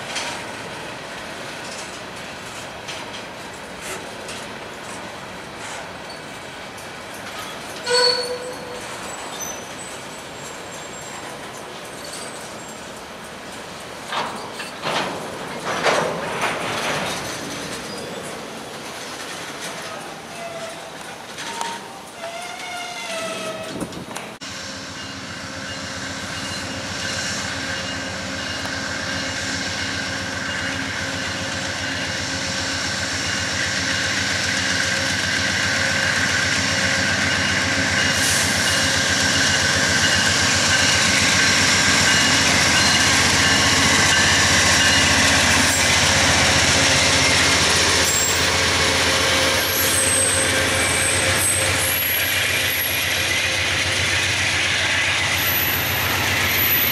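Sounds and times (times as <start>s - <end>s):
diesel passenger train passing: 0.0s - 56.9s
freight train rolling past: 0.0s - 56.9s.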